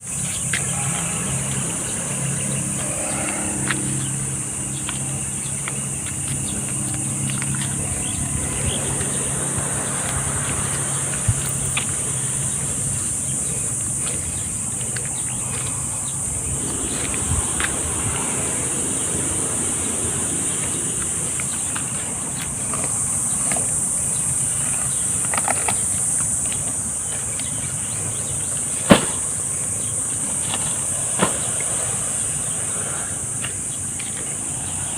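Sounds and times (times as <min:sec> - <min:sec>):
high-pitched insect drone: 0:00.0 - 0:34.9
low engine hum: 0:00.0 - 0:34.9.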